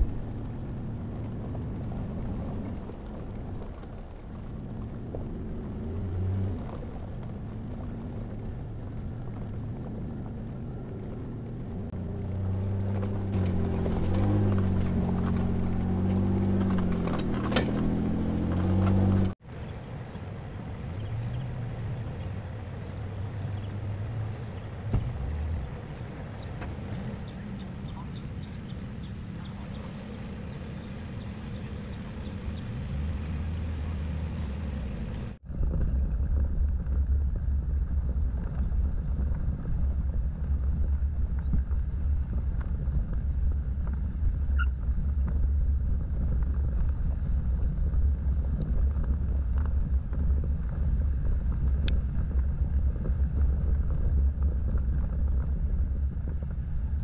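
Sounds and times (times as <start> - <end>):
off-road vehicle engine rumble: 0.0 - 57.0.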